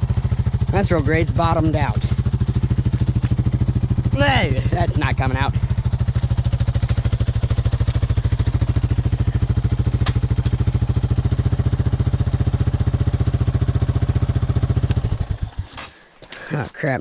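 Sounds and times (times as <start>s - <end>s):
atv engine running: 0.0s - 16.8s.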